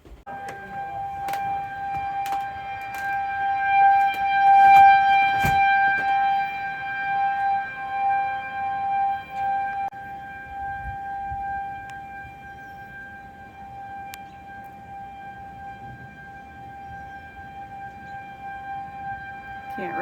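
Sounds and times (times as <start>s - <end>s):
tornado warning siren: 0.0s - 20.0s.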